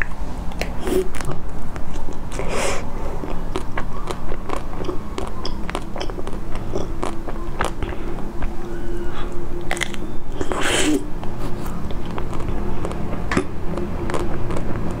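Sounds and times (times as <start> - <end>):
chewing ice cream crunches: 0.5 - 15.0.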